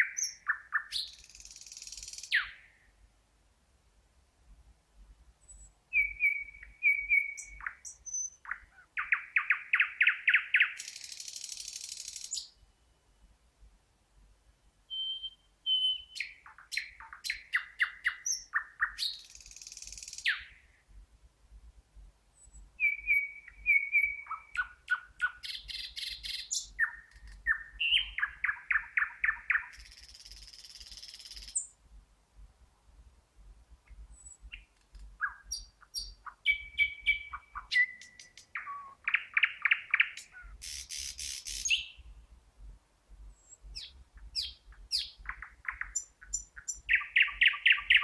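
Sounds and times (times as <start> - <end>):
thrush nightingale singing: 0.0 - 3.0, 5.4 - 13.3, 14.8 - 20.9, 22.3 - 31.8, 33.9 - 42.3, 43.2 - 48.0.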